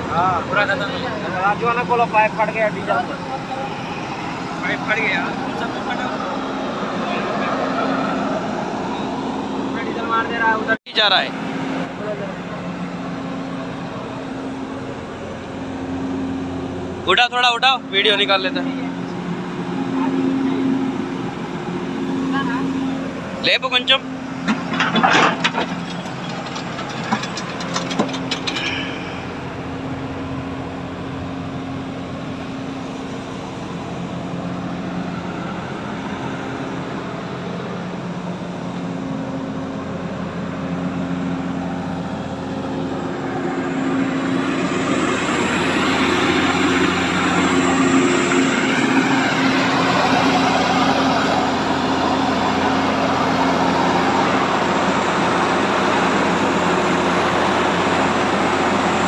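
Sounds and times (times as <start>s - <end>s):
excavator diesel engine idling: 0.0s - 59.0s.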